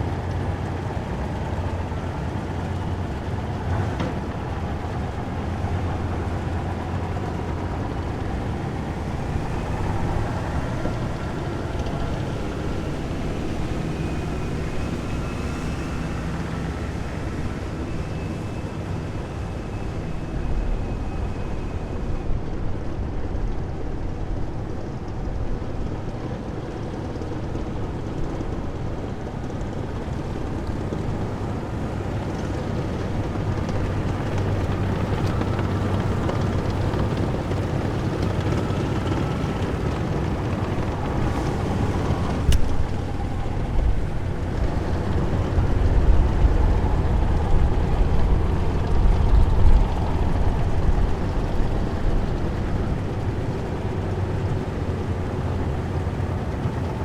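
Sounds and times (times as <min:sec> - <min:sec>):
heavy vehicle engines rumbling: 0:00.0 - 0:57.0.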